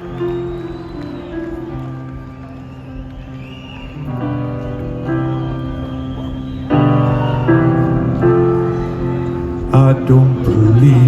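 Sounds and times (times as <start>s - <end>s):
piano playing slow chords: 0.0s - 11.0s.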